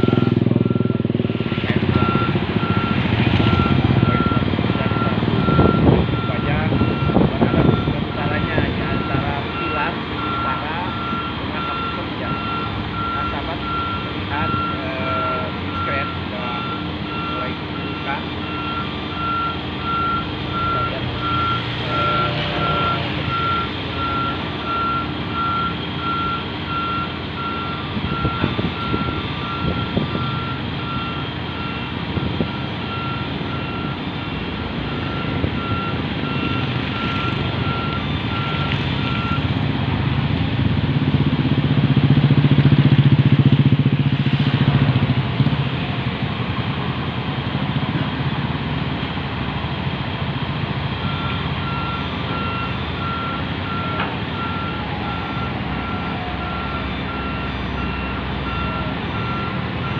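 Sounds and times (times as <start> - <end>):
machinery warning beeper: 0.0 - 39.5, 51.0 - 59.9
diesel engine running: 0.0 - 59.9.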